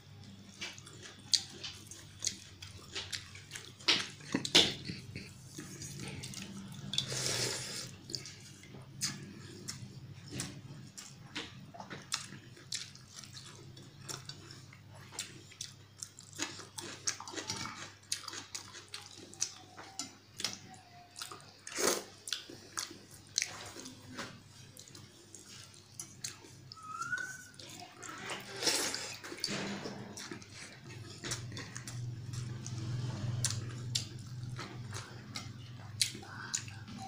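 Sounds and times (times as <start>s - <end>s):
wet chewing and lip-smacking: 0.2s - 37.0s.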